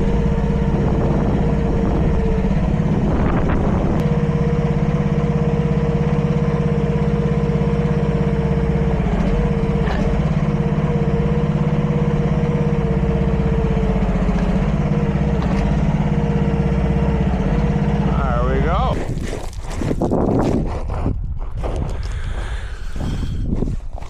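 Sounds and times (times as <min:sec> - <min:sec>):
excavator engine running: 0:00.0 - 0:24.0.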